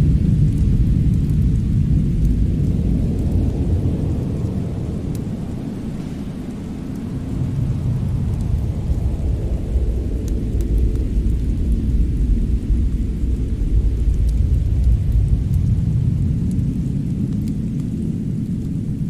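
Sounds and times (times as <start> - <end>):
deep rumbling roar of storm: 0.0 - 19.0
fire crackles: 0.0 - 19.0.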